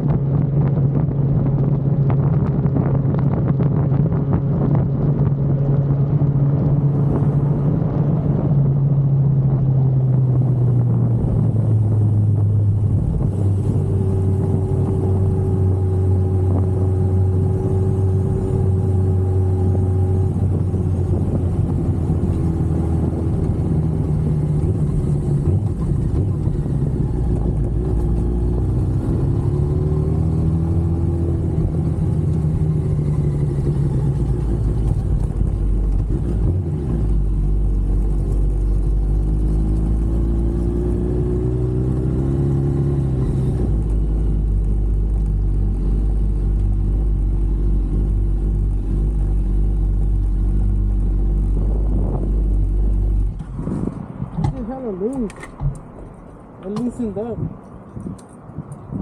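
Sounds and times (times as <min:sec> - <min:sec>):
motorcycle engine revving: 0:00.0 - 0:57.3
steady low rumble: 0:00.0 - 0:59.0.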